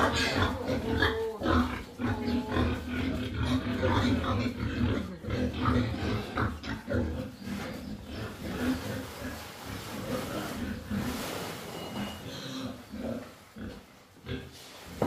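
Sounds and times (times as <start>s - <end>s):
pigs grunting: 0.0s - 11.4s, 12.0s - 14.6s.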